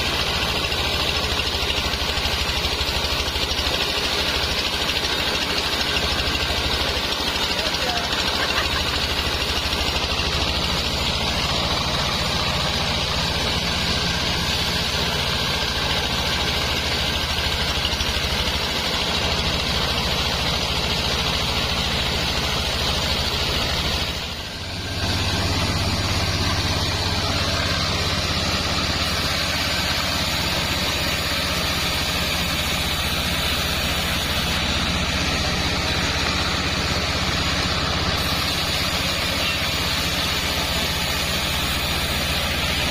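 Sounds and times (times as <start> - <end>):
high saw whine: 0.0 - 42.9
sawmill machinery humming: 0.0 - 42.9.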